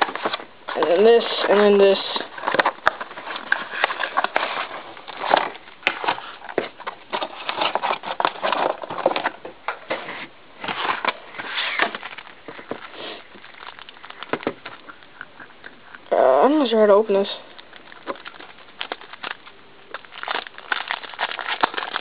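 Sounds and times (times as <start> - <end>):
cardboard box rustling: 0.0 - 15.1, 17.5 - 22.0.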